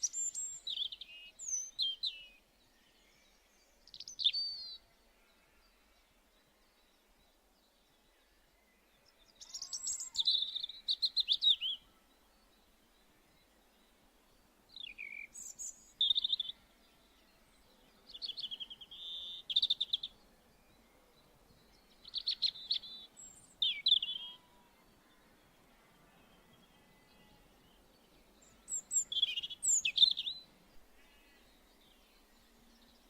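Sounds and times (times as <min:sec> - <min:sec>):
faint background noise: 0:00.0 - 0:33.0
songbird singing: 0:00.0 - 0:33.0.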